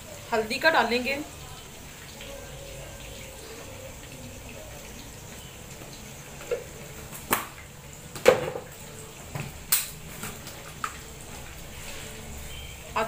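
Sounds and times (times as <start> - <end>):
stovetop hiss: 0.0 - 13.0.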